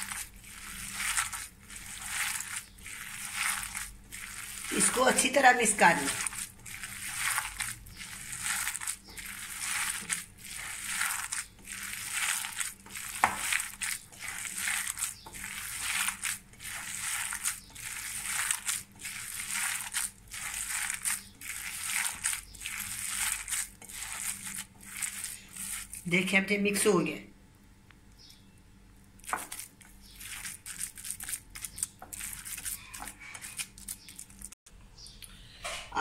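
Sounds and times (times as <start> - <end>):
wet squelching of kneaded mince: 0.0 - 26.4, 29.2 - 34.6.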